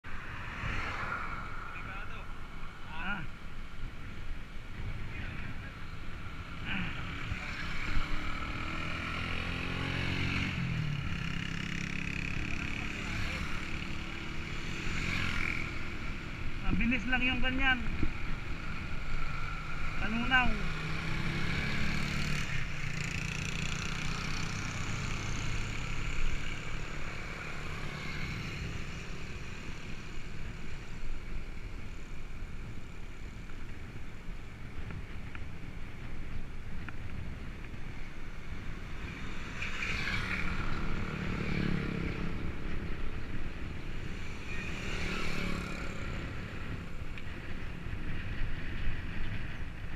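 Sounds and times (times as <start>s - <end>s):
road and wind noise: 0.0s - 49.9s
steady rushing noise: 0.0s - 49.9s.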